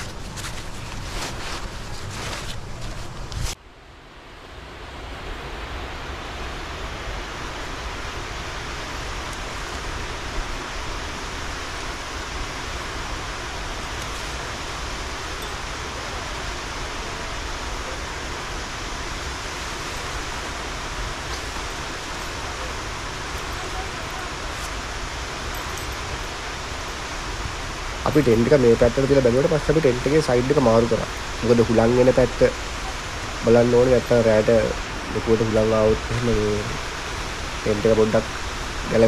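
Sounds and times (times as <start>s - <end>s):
waterfall rushing: 4.7s - 39.0s.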